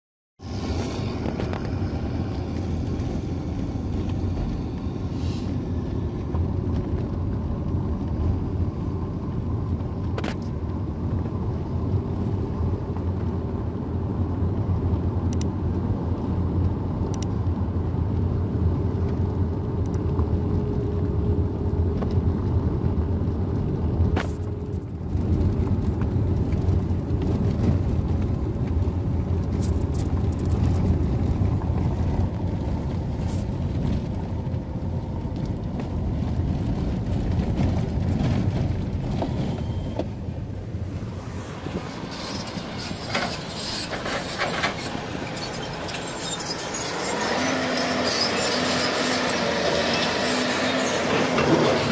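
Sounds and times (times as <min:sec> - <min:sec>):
car engine and tyre rumble: 0:00.4 - 0:51.9.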